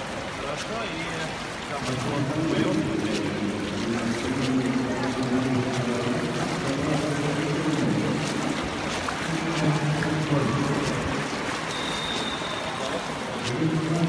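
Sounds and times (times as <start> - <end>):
echoing water wash: 0.0 - 14.0
murmur of voices: 0.0 - 14.0.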